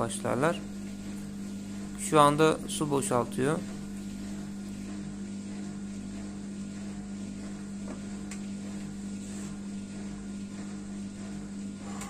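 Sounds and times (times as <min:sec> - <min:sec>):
dishwasher drain pump humming: 0:00.0 - 0:12.0.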